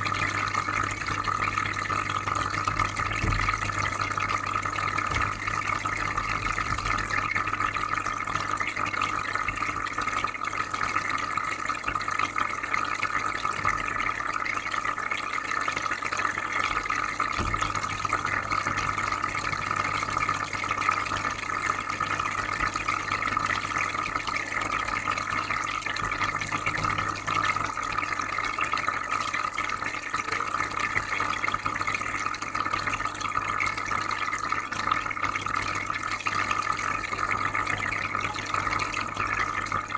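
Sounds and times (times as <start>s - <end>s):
filter humming: 0.0s - 39.9s
water bubbling: 0.0s - 39.9s
water trickling: 0.0s - 39.9s.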